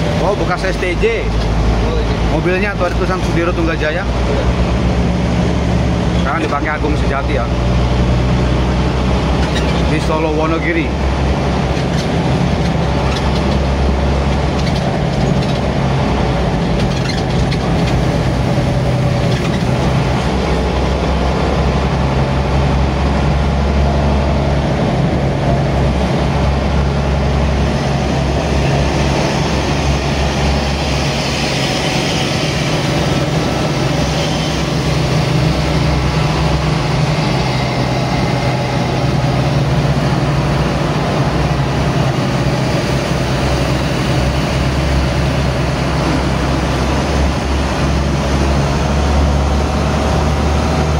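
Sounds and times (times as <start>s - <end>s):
bus engine drone: 0.0s - 50.9s
road and cabin noise: 0.0s - 50.9s.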